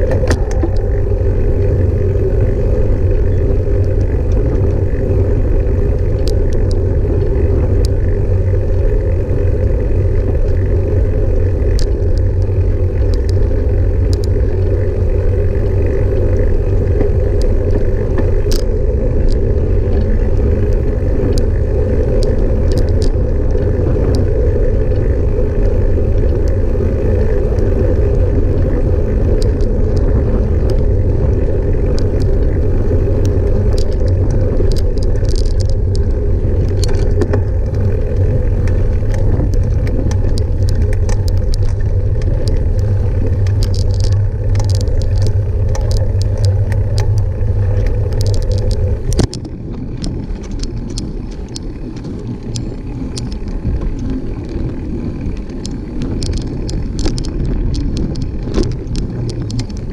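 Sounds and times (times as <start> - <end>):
light clicks and rattles: 0.0 - 59.9
small vehicle rolling on concrete: 0.0 - 59.9.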